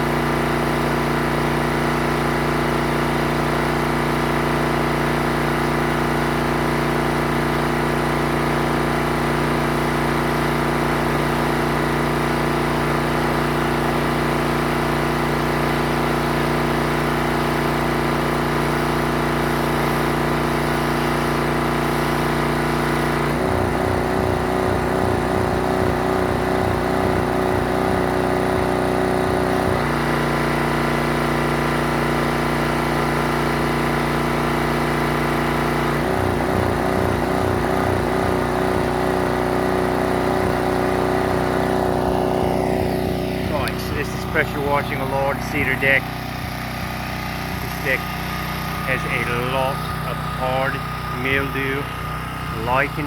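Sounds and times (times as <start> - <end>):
pressure washer engine running: 0.0 - 53.0.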